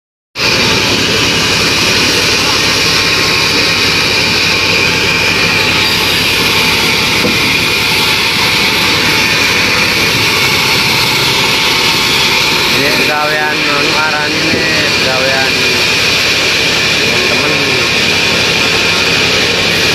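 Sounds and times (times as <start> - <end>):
band sawmill running: 0.4 - 19.9.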